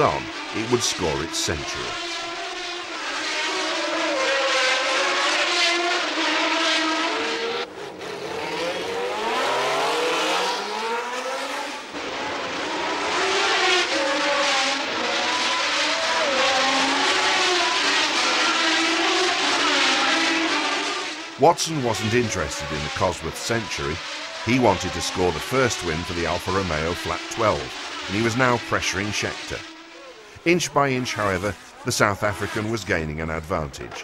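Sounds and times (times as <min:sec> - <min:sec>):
racing cars passing: 0:00.0 - 0:34.0.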